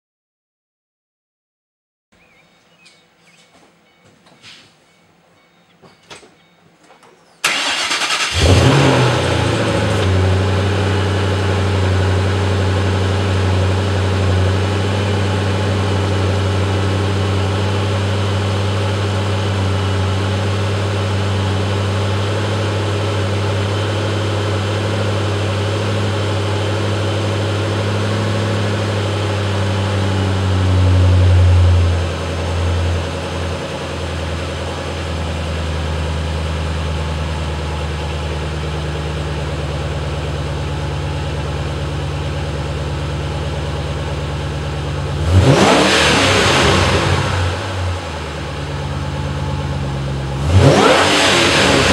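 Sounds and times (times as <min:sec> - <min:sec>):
car engine starting and idling: 0:05.2 - 0:51.9.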